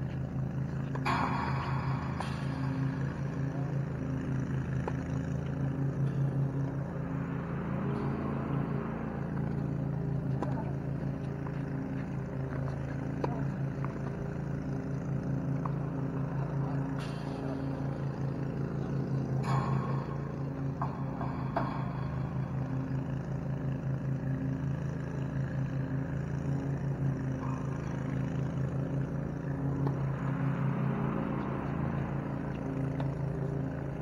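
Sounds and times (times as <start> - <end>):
tennis balls struck by rackets: 0.0 - 24.5, 27.4 - 34.0
motor humming: 0.0 - 34.0.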